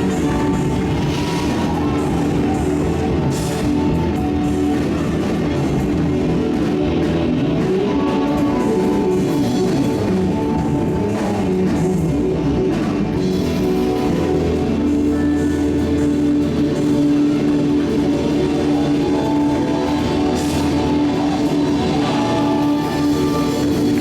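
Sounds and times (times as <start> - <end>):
gospel band playing: 0.0 - 24.0.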